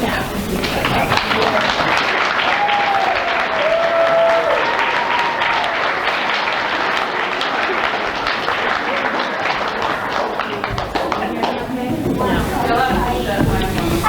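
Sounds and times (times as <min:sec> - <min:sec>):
audience applauding: 0:00.0 - 0:14.0
voices calling out: 0:00.0 - 0:14.0.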